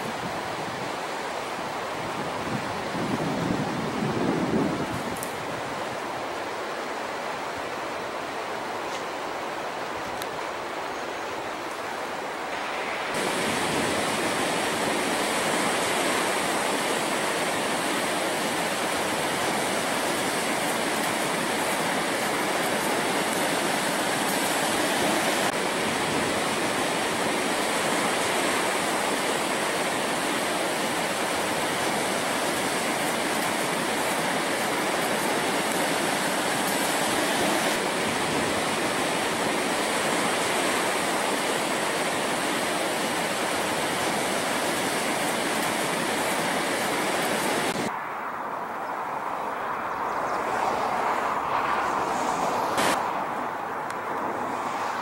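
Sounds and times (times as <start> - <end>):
rushing ocean surf: 0.0 - 55.0.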